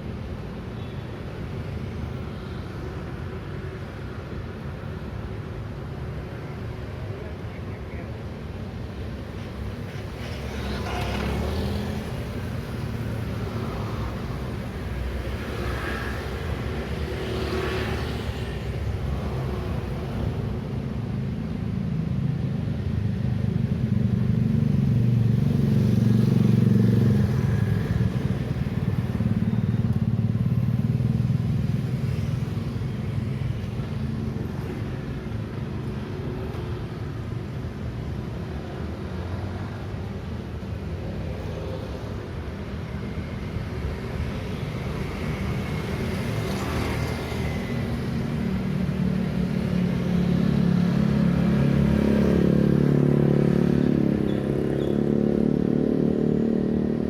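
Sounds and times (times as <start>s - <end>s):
motorcycle and car engines: 1.6s - 57.0s.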